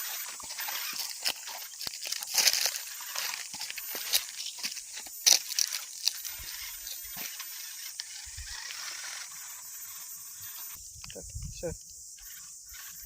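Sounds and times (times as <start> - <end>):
rc car driving over dirt: 0.0 - 10.8, 12.1 - 13.0.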